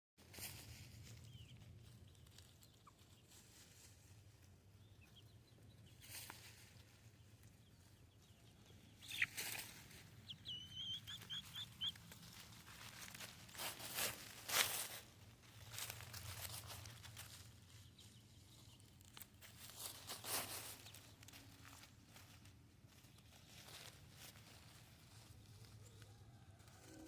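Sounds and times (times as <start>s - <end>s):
scratching and rustling: 0.2s - 4.7s, 8.6s - 27.0s
chickens chirping: 0.4s - 27.0s.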